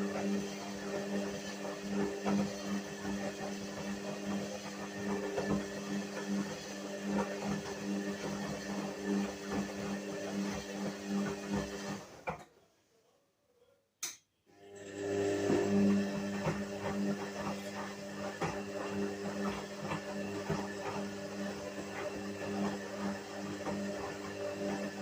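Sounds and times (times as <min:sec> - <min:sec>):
washing machine motor humming: 0:00.0 - 0:12.4, 0:14.6 - 0:25.0.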